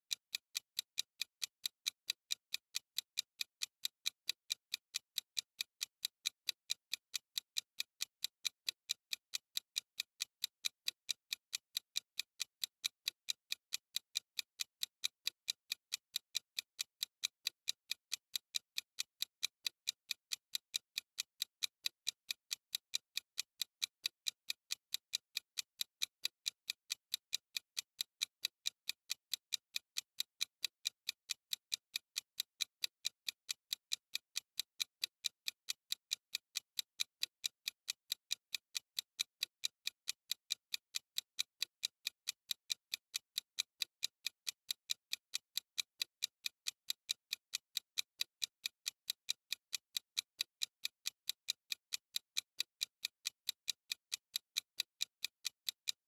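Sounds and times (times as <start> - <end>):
timer ticking: 0.0 - 56.0.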